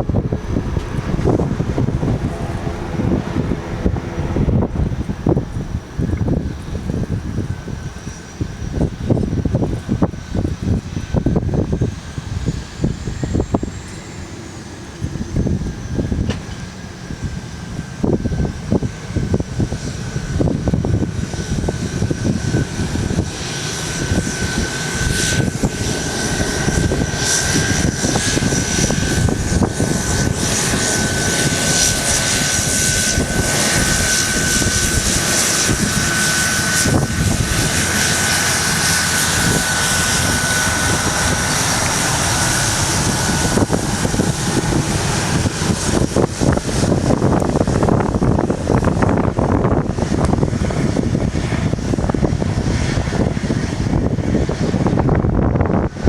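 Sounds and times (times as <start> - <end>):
jet engines whining: 0.0 - 56.0
wind buffeting microphone: 0.0 - 56.0.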